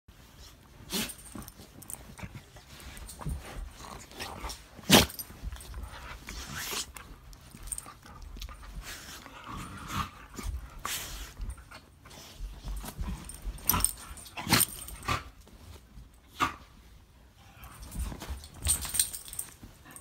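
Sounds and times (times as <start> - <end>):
bedding rustling: 0.1 - 20.0.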